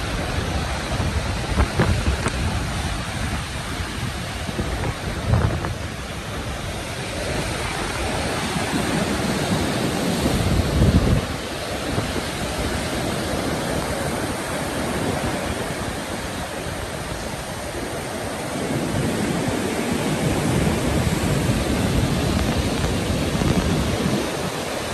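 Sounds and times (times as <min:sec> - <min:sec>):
waves breaking: 0:00.0 - 0:24.9.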